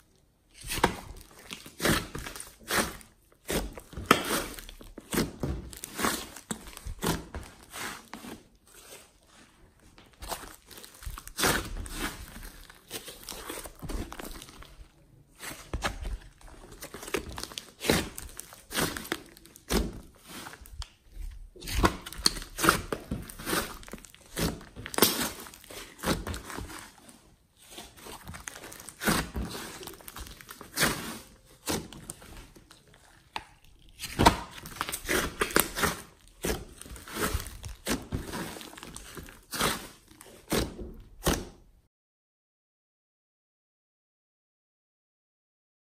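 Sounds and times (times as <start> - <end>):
slime squelching and crackling: 0.0 - 41.8.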